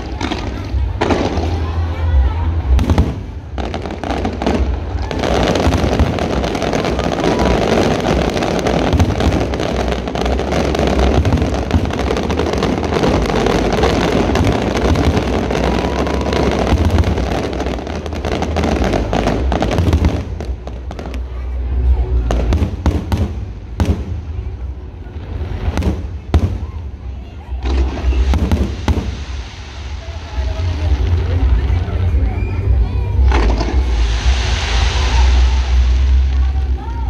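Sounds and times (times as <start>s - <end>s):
fireworks crackling: 0.0s - 37.0s
low rumble: 0.0s - 37.0s.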